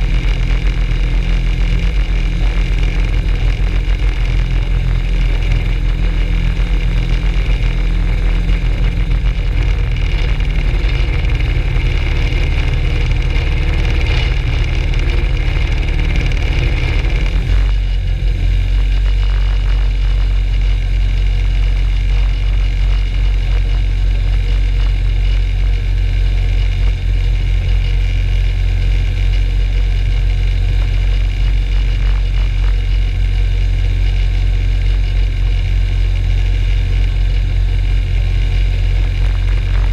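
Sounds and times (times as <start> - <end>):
ultralight aircraft engine running: 0.0 - 39.9.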